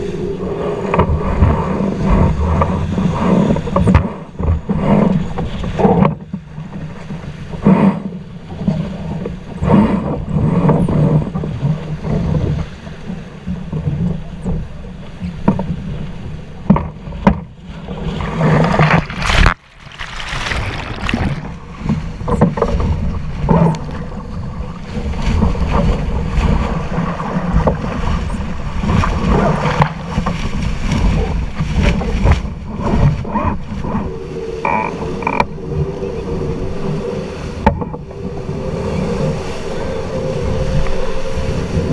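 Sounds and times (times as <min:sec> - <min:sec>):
rushing water: 0:00.0 - 0:41.9
wind buffeting microphone: 0:00.0 - 0:41.9.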